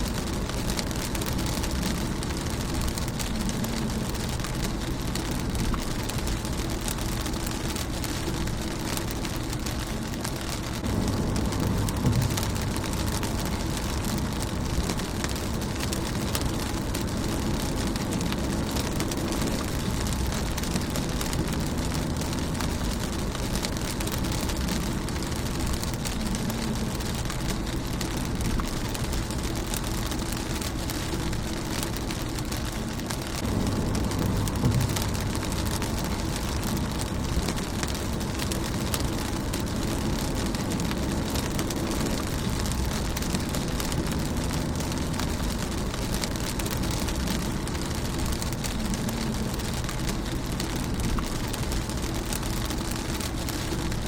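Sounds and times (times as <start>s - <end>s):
rain pattering on a car: 0.0s - 54.0s.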